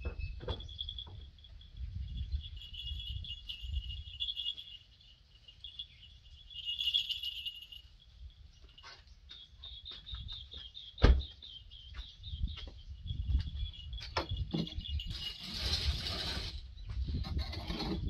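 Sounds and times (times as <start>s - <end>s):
high chirping: 0.0s - 15.3s.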